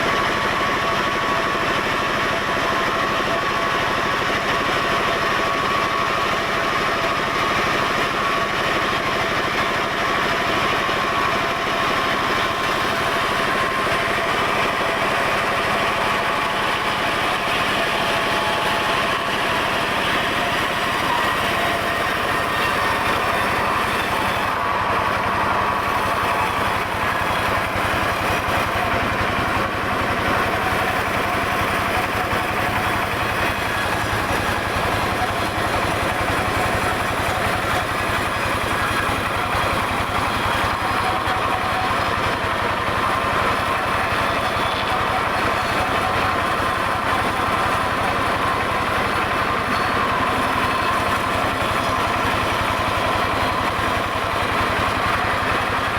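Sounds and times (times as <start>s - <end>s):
sawmill saw cutting log: 0.0s - 55.9s.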